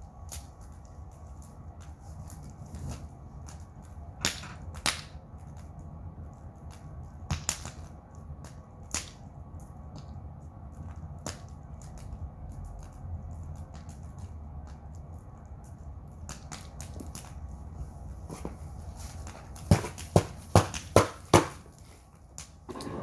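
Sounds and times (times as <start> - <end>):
bonfire crackling: 0.0 - 23.0
firewood popping: 0.1 - 23.0.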